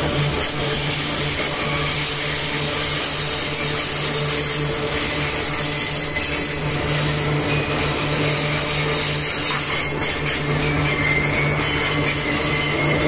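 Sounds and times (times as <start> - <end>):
steel wheels grinding on rails: 0.0 - 13.0.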